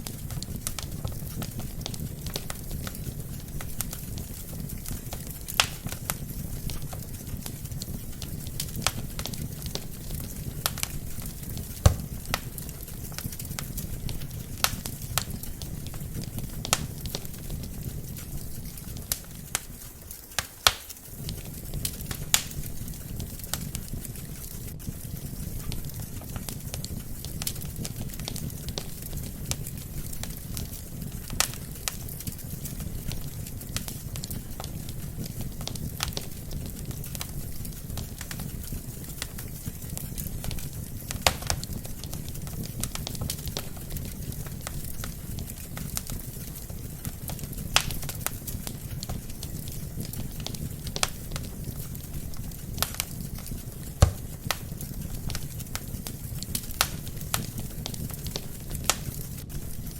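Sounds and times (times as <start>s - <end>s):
hiss of flame: 0.0s - 59.9s
wood fire crackling and popping: 0.0s - 59.9s.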